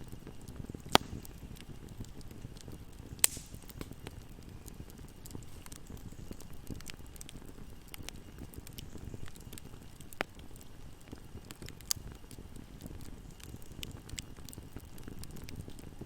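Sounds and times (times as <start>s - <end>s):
wood fire burning: 0.0s - 16.0s
sharp fire pops: 0.2s - 16.0s.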